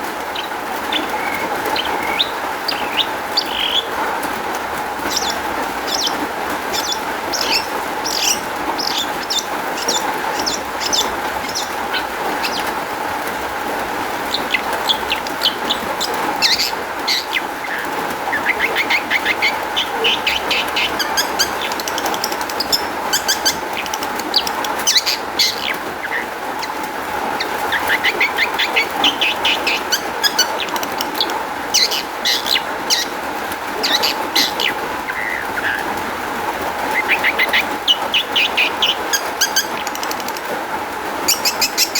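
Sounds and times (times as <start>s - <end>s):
bird song with rattling trills: 0.0s - 36.0s, 36.6s - 41.9s.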